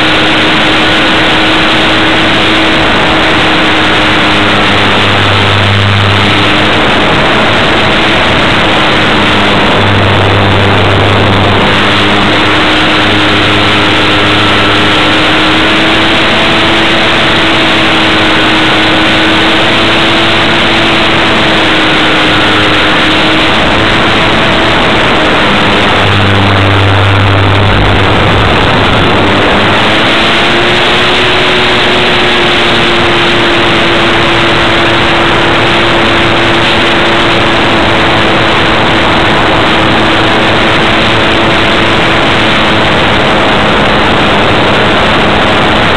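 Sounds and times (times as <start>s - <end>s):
model aircraft motor humming: 0.0s - 45.9s
rushing wind: 0.0s - 45.9s.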